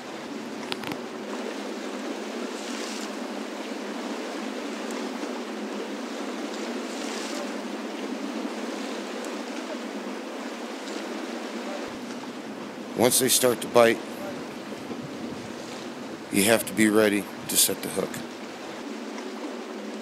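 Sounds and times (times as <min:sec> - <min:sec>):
lake water washing on rocks: 0:00.0 - 0:19.5
wind: 0:00.0 - 0:20.0.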